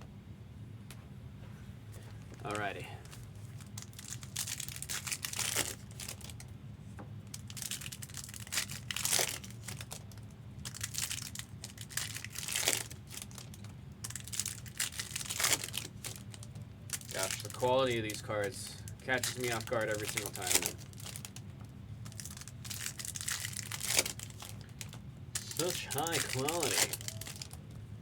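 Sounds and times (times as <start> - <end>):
foil wrappers crinkling and tearing: 2.5 - 6.5, 7.3 - 27.7.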